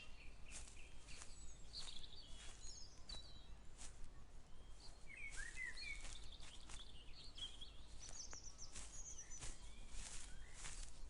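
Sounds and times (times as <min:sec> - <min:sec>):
songbirds chirping: 0:00.0 - 0:11.0
footsteps walking: 0:00.4 - 0:04.1, 0:04.9 - 0:11.0.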